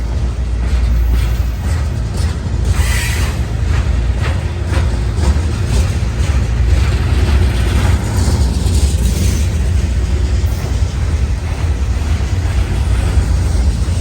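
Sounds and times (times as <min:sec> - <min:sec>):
train rumbling past: 0:00.0 - 0:14.0
train wheel clacks: 0:00.0 - 0:14.0.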